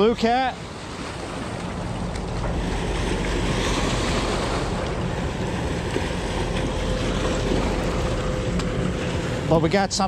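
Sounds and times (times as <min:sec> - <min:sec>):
moving water: 0:00.0 - 0:10.0.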